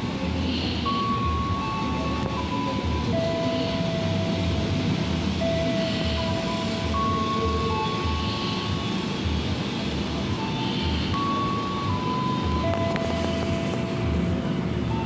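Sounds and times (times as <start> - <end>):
electric train rumbling and whining: 0.0 - 15.0.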